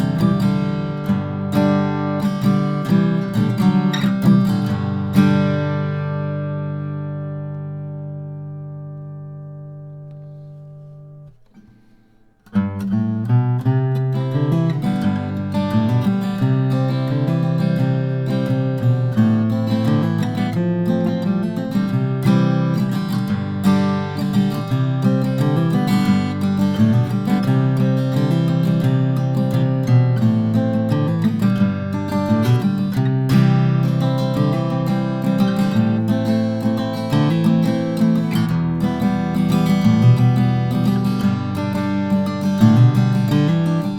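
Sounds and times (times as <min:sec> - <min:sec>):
acoustic guitar playing: 0:00.0 - 0:43.9.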